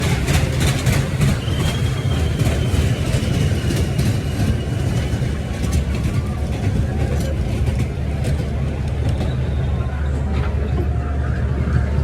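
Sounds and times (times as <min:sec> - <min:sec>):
ride rumbling: 0:00.0 - 0:12.0.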